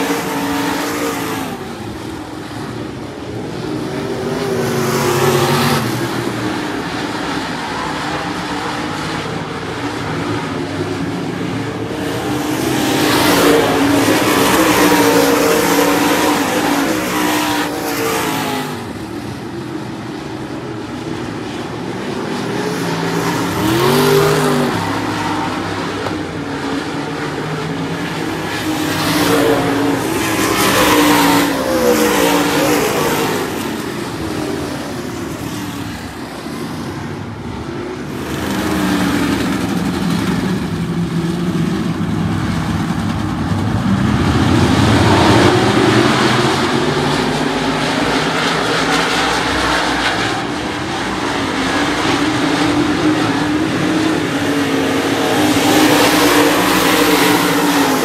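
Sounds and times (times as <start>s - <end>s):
race car engines passing: 0.0s - 58.0s.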